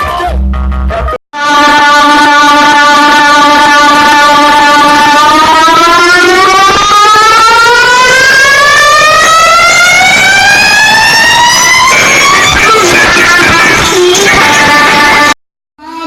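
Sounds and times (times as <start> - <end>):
busy sound: 1.4 - 15.4
siren-like tone rising in pitch: 1.4 - 16.0.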